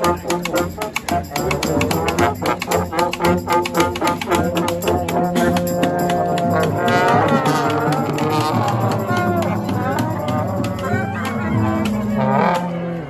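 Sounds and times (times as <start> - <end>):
brass band playing: 0.0 - 13.0
sliding trombone notes: 0.0 - 13.0.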